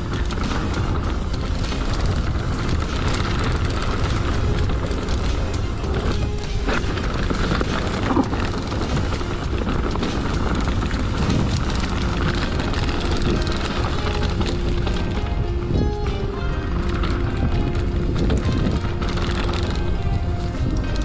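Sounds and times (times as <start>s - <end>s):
bike rattling on rough trail: 0.0s - 21.0s
wind rumbling on microphone: 0.0s - 21.0s.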